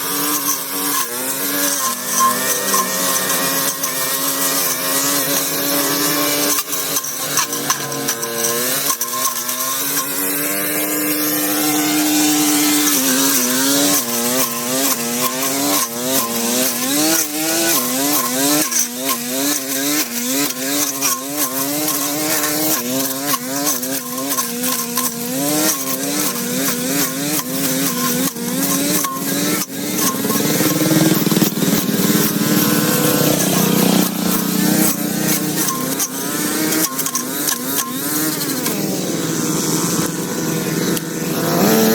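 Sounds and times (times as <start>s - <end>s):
small power tool engine revving: 0.0s - 41.9s.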